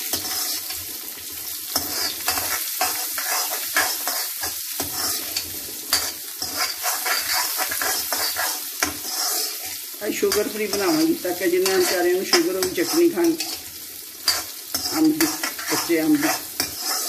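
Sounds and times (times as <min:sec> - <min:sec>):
metal ladle scraping pan: 0:00.0 - 0:00.8, 0:01.7 - 0:17.0
food sizzling in hot oil: 0:00.0 - 0:17.0.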